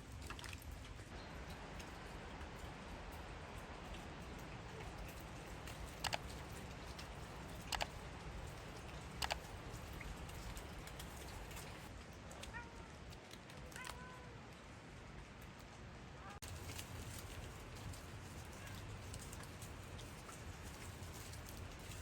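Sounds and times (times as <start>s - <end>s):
rain patter: 0.0s - 22.0s.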